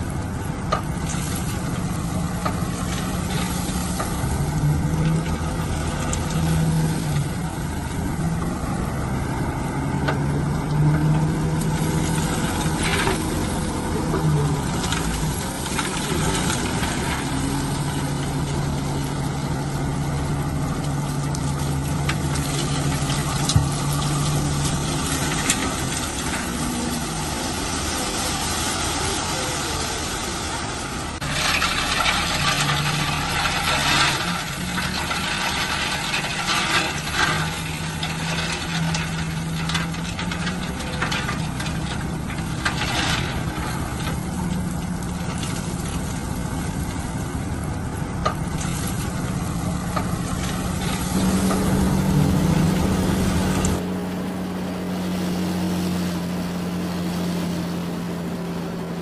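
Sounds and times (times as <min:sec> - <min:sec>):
loud rattling and scraping: 0:00.0 - 0:29.0, 0:31.2 - 0:54.3
diesel engine running: 0:00.0 - 0:59.0.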